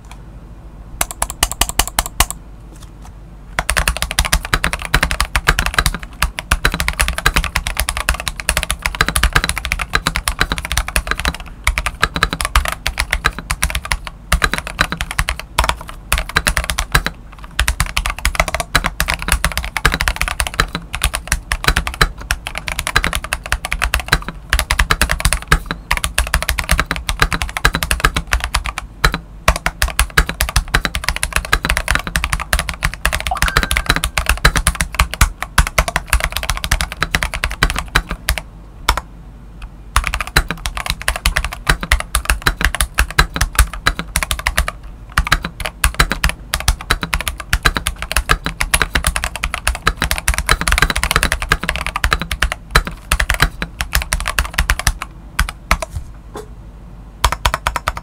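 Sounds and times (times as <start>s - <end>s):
typing on mechanical keyboard: 1.0s - 2.4s, 3.6s - 39.0s, 40.0s - 55.9s, 57.2s - 58.0s.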